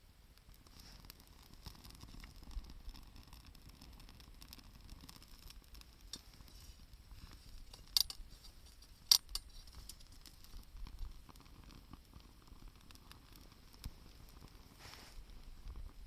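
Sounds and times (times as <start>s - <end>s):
campfire crackling: 0.0s - 16.0s
sharp fire pops: 0.3s - 16.0s.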